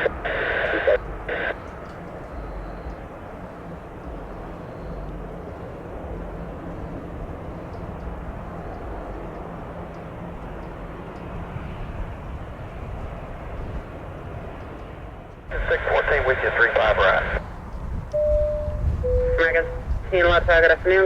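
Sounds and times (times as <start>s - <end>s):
jet engine rumble: 0.0s - 21.0s
wind on microphone: 0.0s - 21.0s.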